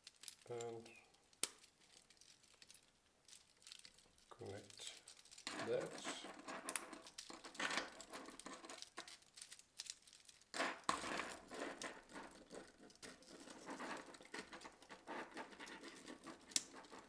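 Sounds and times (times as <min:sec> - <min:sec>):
plastic pieces clicking and rattling: 0:00.0 - 0:17.0.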